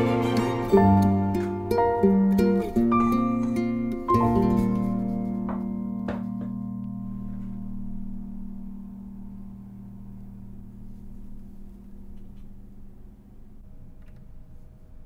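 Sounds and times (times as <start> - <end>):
plucked notes: 0.0 - 13.6
held low chord: 0.0 - 13.9.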